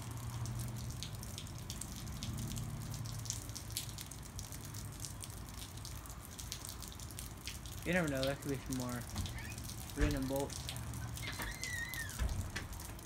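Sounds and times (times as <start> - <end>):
rain falling: 0.0 - 13.0
water drips and taps: 0.0 - 13.0.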